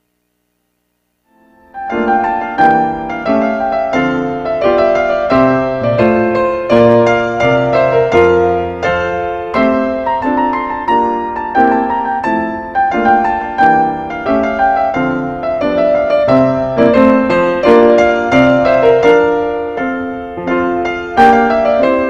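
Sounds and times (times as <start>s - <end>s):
gentle piano melody: 1.3s - 22.0s.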